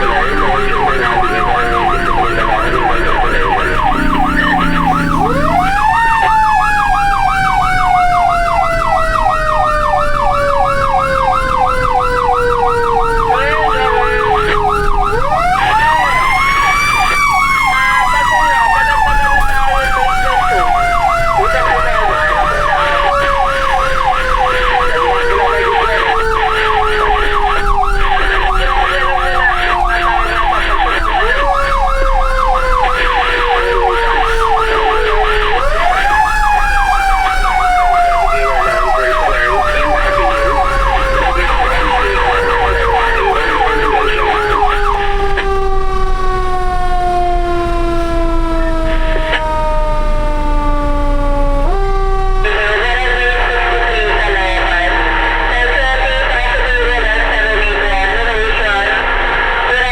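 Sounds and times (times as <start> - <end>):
electronic siren yelping: 0.0 - 59.9
mechanical siren wail: 0.0 - 59.9.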